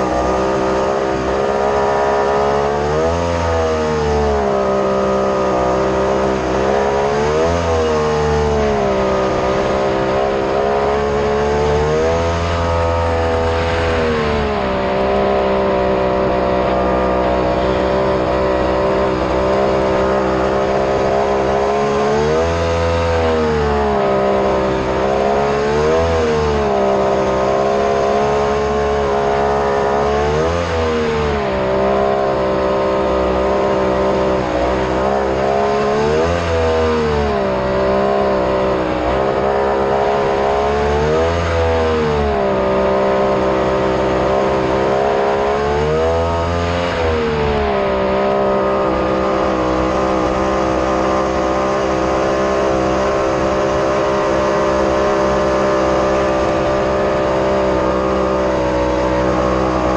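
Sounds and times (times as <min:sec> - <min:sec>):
jet boat engine revving: 0:00.0 - 0:59.9.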